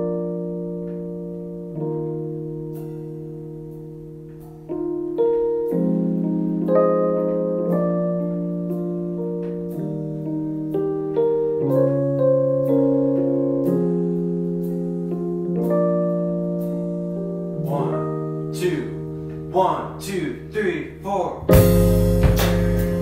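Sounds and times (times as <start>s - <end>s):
piano playing slow chords: 0.0s - 23.0s.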